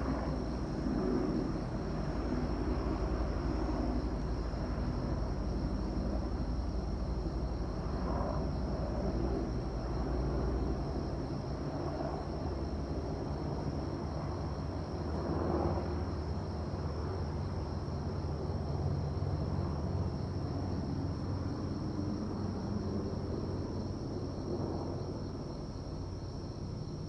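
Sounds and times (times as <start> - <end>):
helicopter flying over: 0.0 - 26.1.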